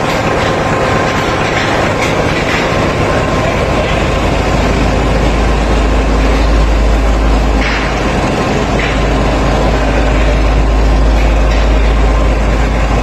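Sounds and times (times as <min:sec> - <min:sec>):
marine diesel engine running: 0:00.0 - 0:13.0.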